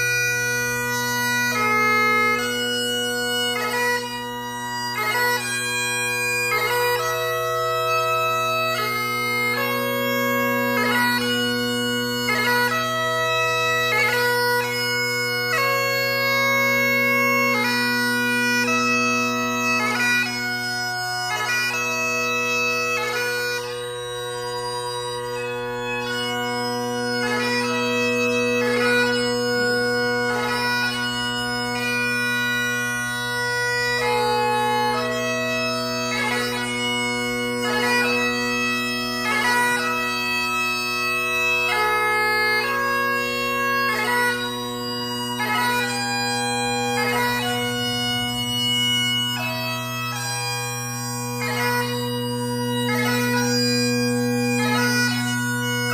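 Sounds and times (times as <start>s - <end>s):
bagpipe playing solo: 0.0s - 55.9s.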